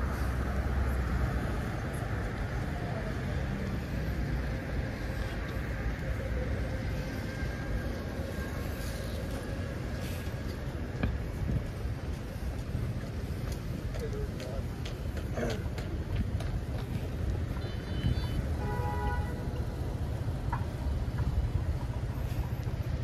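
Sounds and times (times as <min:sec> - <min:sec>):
rumble of passing vehicles: 0:00.0 - 0:23.0.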